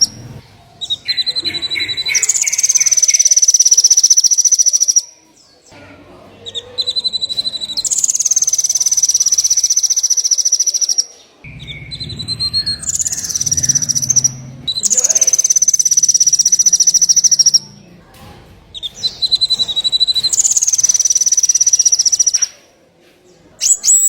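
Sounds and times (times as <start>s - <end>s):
songbird trilling: 0.0s - 5.1s, 6.4s - 18.0s, 18.7s - 22.6s, 23.6s - 24.0s.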